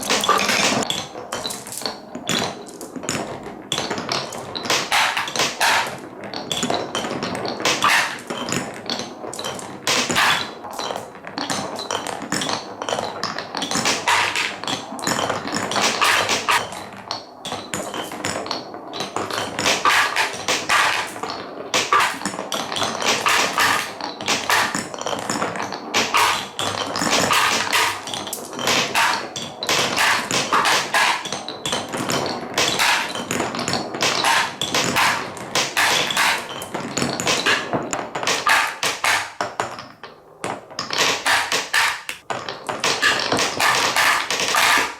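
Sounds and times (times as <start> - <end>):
marbles rolling on wooden track: 0.0 - 44.9.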